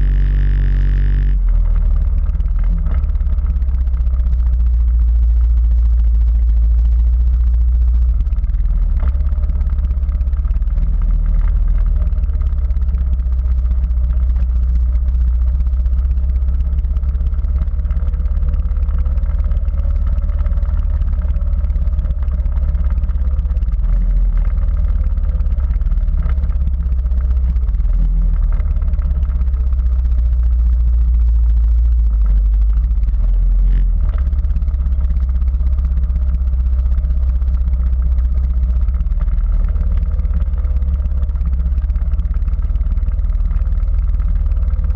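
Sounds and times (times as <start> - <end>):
quad bike engine running: 0.0 - 44.9.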